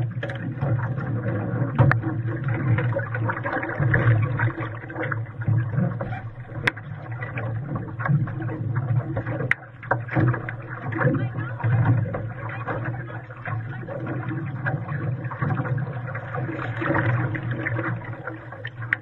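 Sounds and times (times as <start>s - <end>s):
water slapping against hull: 0.0s - 19.0s.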